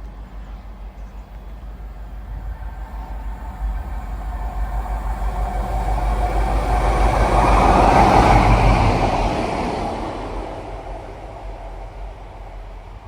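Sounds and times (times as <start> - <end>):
train passing roar: 0.0 - 13.0.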